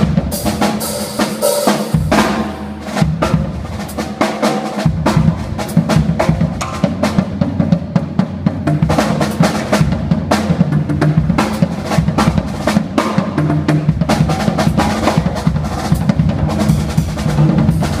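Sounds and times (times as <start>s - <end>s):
drum kit solo: 0.0s - 18.0s.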